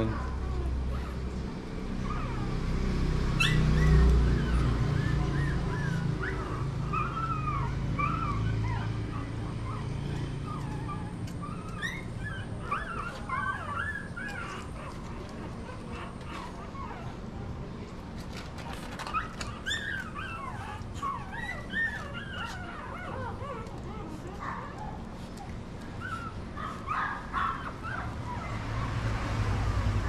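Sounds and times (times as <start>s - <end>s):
puppy whimpering and yipping: 0.0s - 1.2s, 2.0s - 2.6s, 3.3s - 17.2s, 19.0s - 29.0s.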